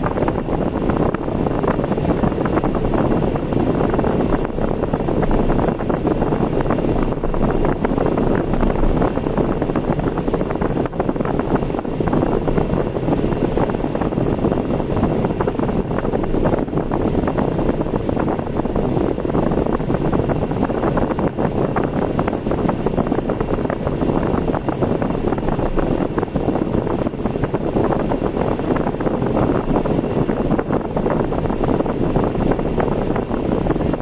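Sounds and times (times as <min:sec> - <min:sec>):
car road and wind noise: 0:00.0 - 0:34.0.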